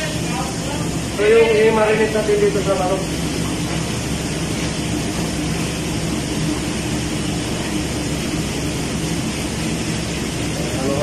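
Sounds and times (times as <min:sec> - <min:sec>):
ventilation fan hum: 0:00.0 - 0:11.0.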